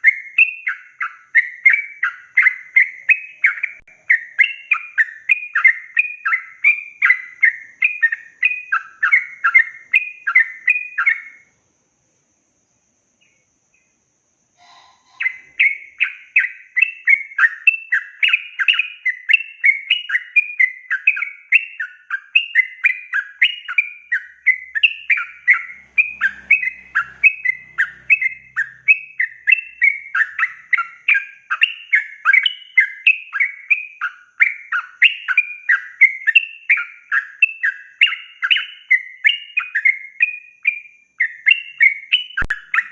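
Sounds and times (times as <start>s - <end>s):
bulbul chattering song: 0.0s - 11.6s, 12.7s - 42.9s.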